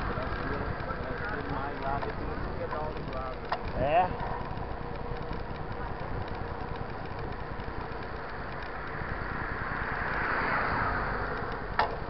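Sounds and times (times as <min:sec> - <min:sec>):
bike tyres rumbling on wet asphalt: 0:00.0 - 0:12.0
motor vehicle passing: 0:00.0 - 0:12.0
wind: 0:00.0 - 0:12.0.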